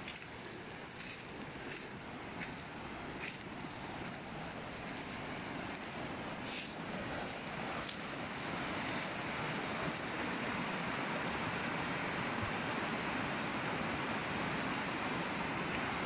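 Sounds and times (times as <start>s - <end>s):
fast mountain stream rushing: 0.0s - 16.0s.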